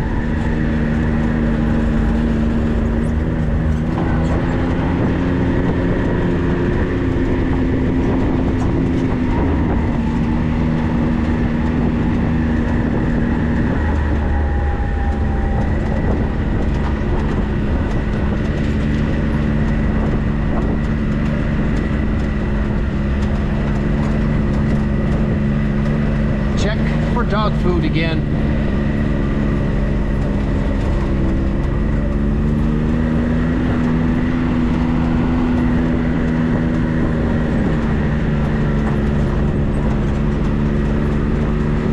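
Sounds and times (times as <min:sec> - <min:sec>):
car engine running: 0:00.0 - 0:41.9
road and drivetrain rumble: 0:00.0 - 0:41.9.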